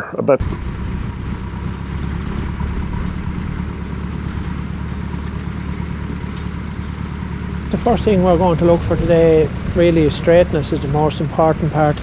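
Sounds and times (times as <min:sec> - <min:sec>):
tractor engine running: 0:00.4 - 0:12.0.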